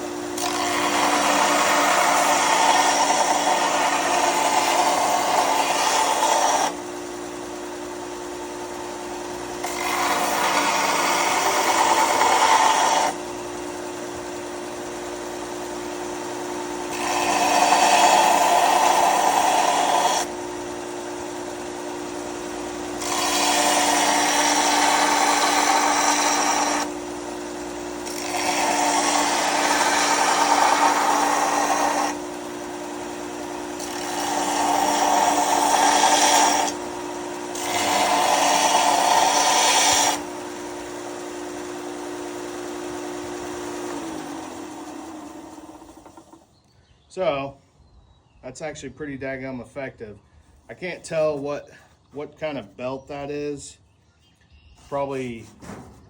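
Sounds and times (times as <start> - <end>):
metal grinding on sanding belt: 0.0 - 46.4
belt grinder motor running: 0.0 - 46.6.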